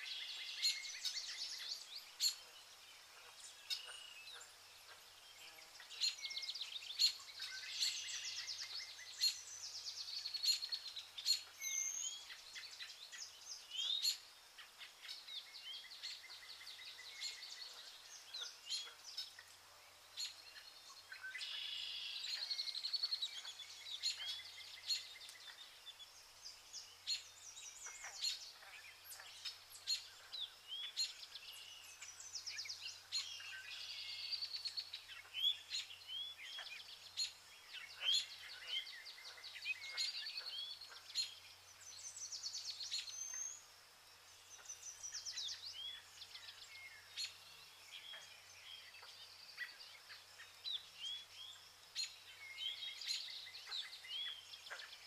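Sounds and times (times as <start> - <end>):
faint outdoor ambience: 0.0 - 55.0
small birds chirping and trilling: 0.0 - 55.0.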